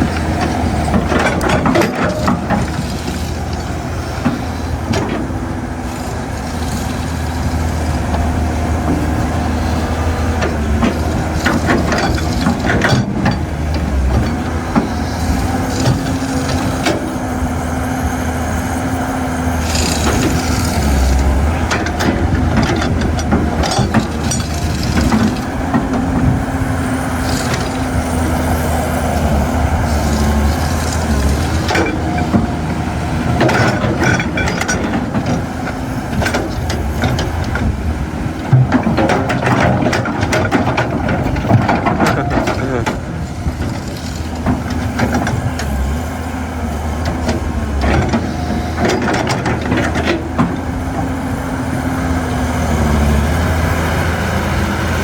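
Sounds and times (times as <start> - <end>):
sharp metallic knocks and scrapes: 0.0 - 17.4, 19.4 - 51.1
excavator diesel engine: 0.0 - 55.0.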